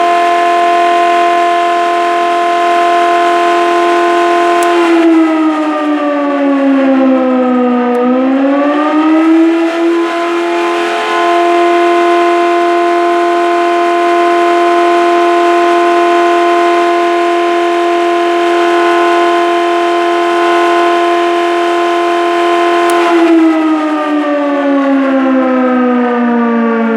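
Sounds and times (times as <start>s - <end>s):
fire station siren: 0.0s - 26.9s.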